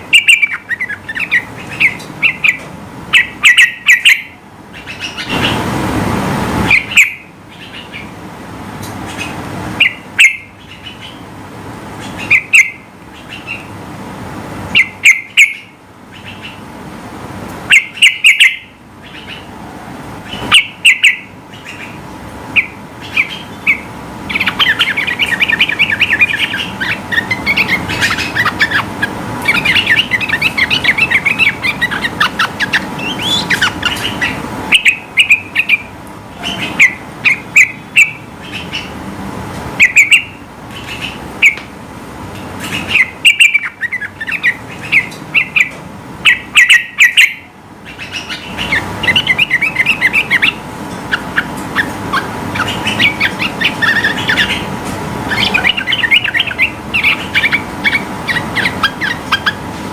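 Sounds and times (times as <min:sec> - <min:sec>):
bird chattering song: 0:00.0 - 0:05.6, 0:06.7 - 0:08.2, 0:08.8 - 0:11.3, 0:11.9 - 0:13.8, 0:14.7 - 0:16.7, 0:17.7 - 0:19.6, 0:20.2 - 0:39.0, 0:39.8 - 0:41.7, 0:42.6 - 0:59.6
loud bird chirps: 0:00.0 - 0:05.6, 0:06.7 - 0:08.2, 0:09.0 - 0:11.3, 0:12.0 - 0:13.8, 0:14.7 - 0:16.7, 0:17.7 - 0:19.5, 0:20.2 - 0:39.0, 0:39.8 - 0:41.6, 0:42.6 - 0:54.7, 0:55.3 - 0:59.6.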